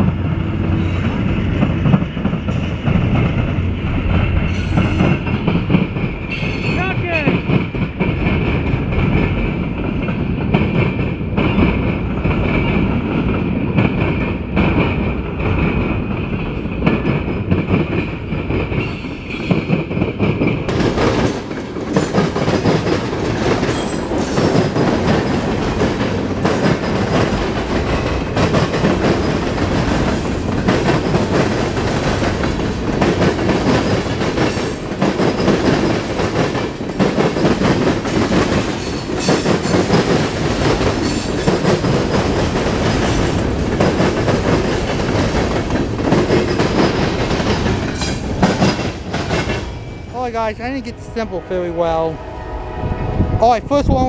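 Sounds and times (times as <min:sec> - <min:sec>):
train wheels clacking on rails: 0:00.0 - 0:52.1.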